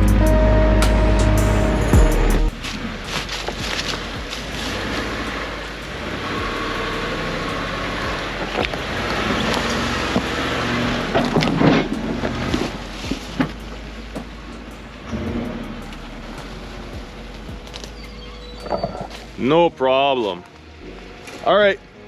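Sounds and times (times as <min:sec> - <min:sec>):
off-road vehicle engine running: 0:00.0 - 0:19.7.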